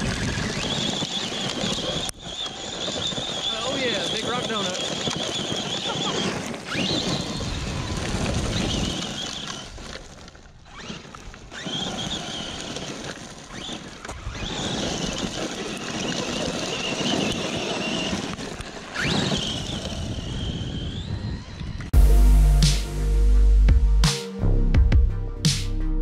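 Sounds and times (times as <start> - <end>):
tyres tearing through gravel: 0.0 - 21.6
electric motor whining: 0.0 - 21.9.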